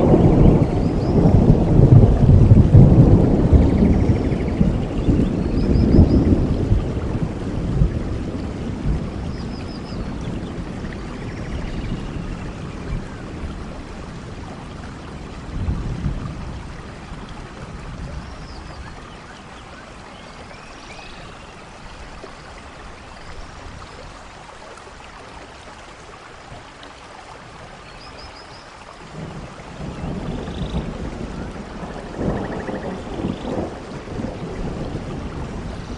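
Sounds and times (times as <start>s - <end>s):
stream running water: 0.0s - 35.9s.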